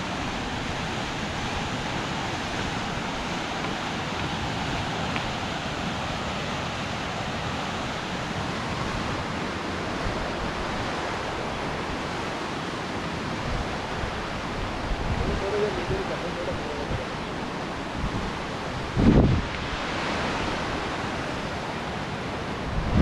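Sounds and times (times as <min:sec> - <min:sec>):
whitewater rapids rushing: 0:00.0 - 0:23.0.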